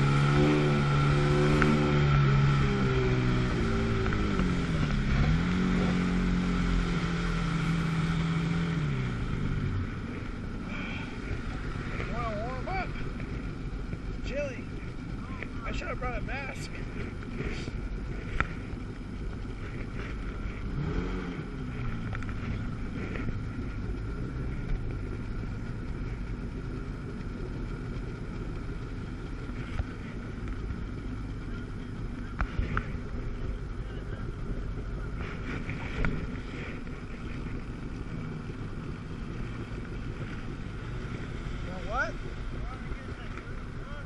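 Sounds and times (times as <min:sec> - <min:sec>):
watercraft engine running: 0:00.0 - 0:44.0.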